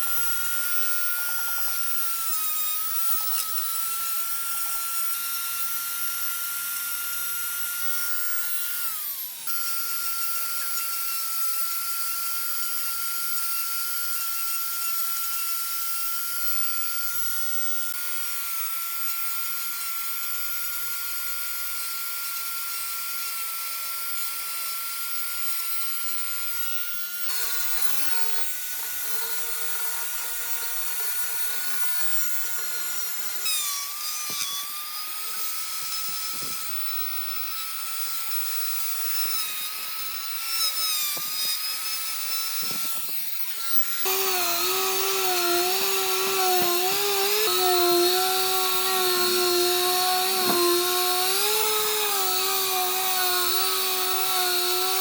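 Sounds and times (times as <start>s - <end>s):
power tool motor whining: 0.0s - 55.0s.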